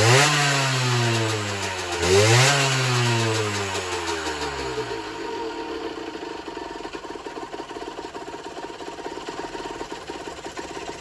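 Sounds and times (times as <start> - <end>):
small engine idling rattly: 0.0 - 11.0.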